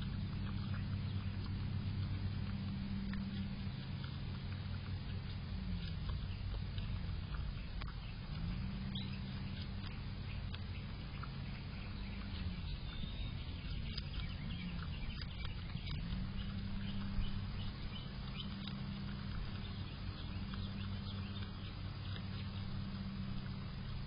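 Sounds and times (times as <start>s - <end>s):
groundhog chewing clicks: 0.0s - 24.0s
steady low hum: 0.0s - 24.0s.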